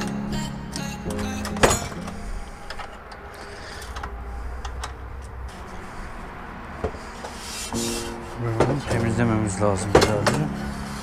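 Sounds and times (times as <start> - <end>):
metal scraping: 1.4 - 11.0.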